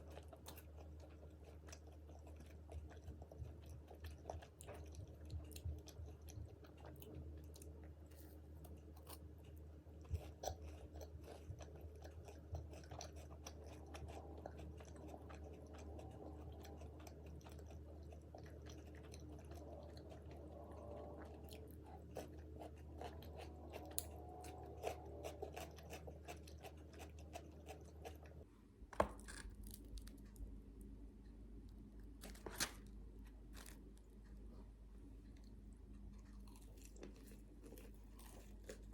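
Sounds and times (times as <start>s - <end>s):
chewing crispy food: 0.0s - 28.5s, 29.2s - 30.7s, 31.6s - 38.9s.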